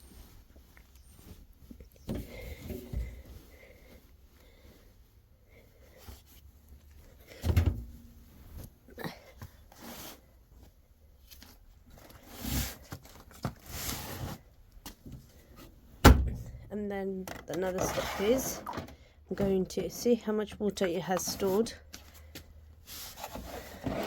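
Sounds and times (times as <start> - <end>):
clothes rustling: 0.0 - 15.9, 19.4 - 24.0.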